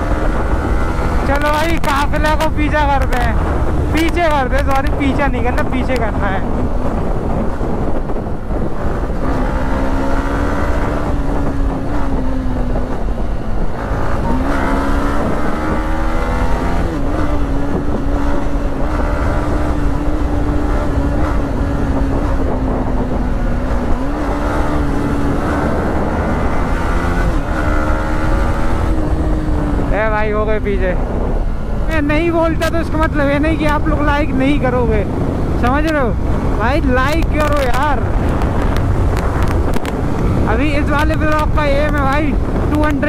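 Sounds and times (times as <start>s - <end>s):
motorcycle engine running: 0.0s - 43.0s
wind rush on microphone: 0.0s - 43.0s.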